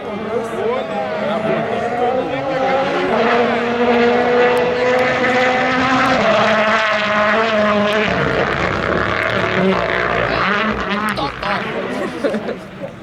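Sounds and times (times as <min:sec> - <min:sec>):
rally car engine running hard: 0:00.0 - 0:12.9.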